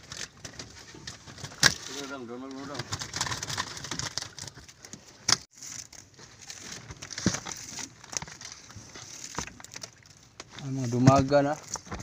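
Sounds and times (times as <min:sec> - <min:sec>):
net bag rustling and crackling: 0:00.0 - 0:12.0.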